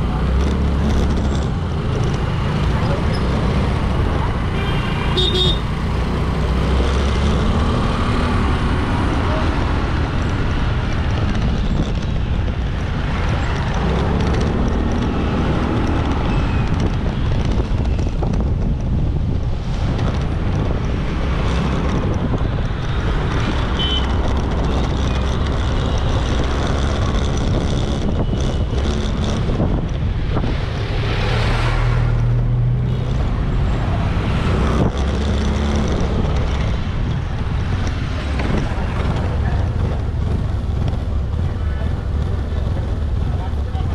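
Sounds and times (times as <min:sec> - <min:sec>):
motorbike engine running: 0:00.0 - 0:30.7, 0:32.9 - 0:43.9
passing vehicles: 0:00.0 - 0:43.9
wind rush on microphone: 0:06.1 - 0:43.9.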